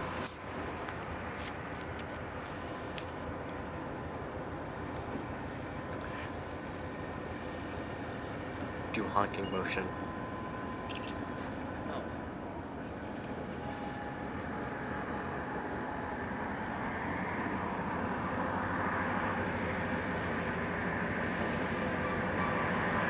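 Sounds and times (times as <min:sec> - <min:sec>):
faint high whine: 0:00.0 - 0:23.0
freight train passing: 0:00.0 - 0:23.0.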